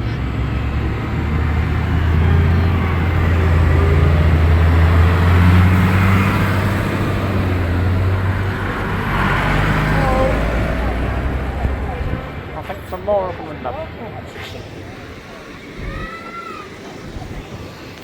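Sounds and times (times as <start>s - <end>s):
tractor engine humming: 0.0s - 18.0s.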